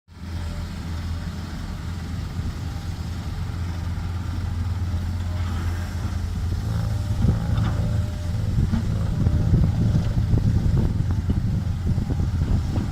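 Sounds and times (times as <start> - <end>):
heavy diesel engine running: 0.1 - 12.9.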